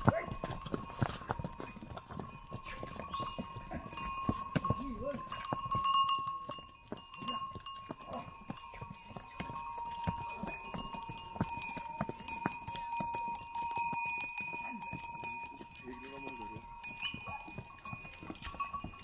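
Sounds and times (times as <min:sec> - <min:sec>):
hooves clopping on stone: 0:00.0 - 0:19.0
mule bells tinkling: 0:00.0 - 0:19.0.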